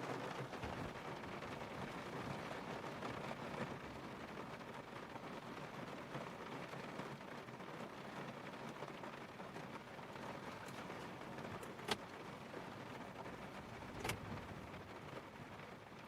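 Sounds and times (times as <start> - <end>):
rain falling on car: 0.0 - 16.0.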